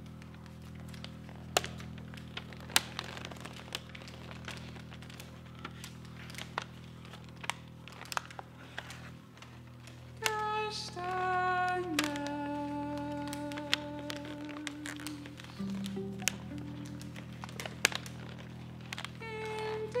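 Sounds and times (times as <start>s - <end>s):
low steady drone: 0.0s - 20.0s
paper crumpling: 0.0s - 20.0s.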